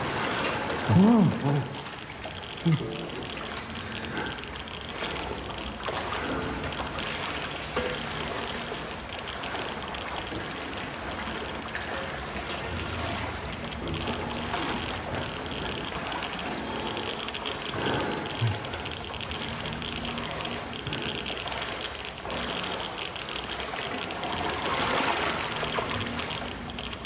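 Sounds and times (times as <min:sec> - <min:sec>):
water sloshing and trickling: 0:00.0 - 0:27.0.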